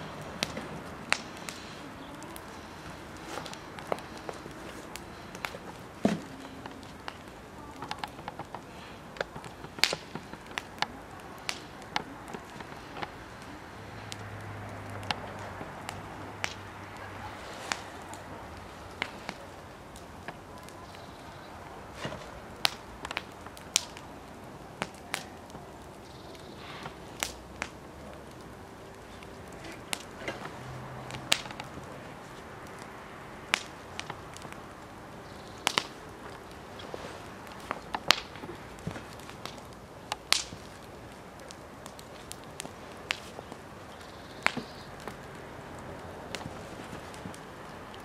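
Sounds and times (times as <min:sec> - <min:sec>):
fire popping: 0:00.0 - 0:48.0
wood fire crackling: 0:00.0 - 0:48.0.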